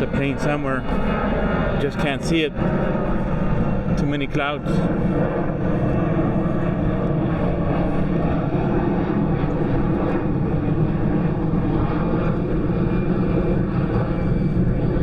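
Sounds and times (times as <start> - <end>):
airplane engine drone: 0.0 - 15.0.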